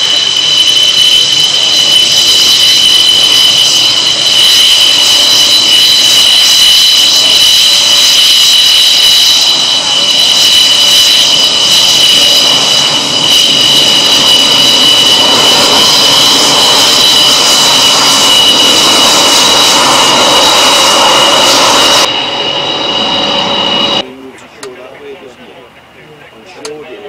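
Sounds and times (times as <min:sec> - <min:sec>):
rushing hiss: 0:00.0 - 0:22.8
jet engine whine: 0:00.0 - 0:27.0.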